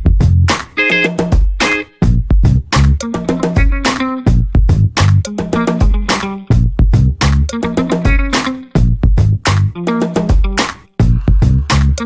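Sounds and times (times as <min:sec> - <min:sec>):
funk background music: 0:00.0 - 0:12.0.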